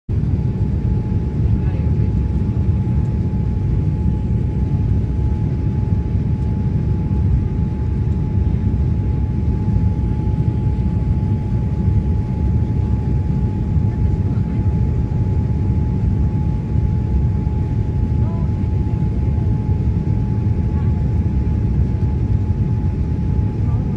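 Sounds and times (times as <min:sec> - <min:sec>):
engine and airflow rumble: 0:00.1 - 0:23.9
faint steady whine: 0:00.1 - 0:23.9.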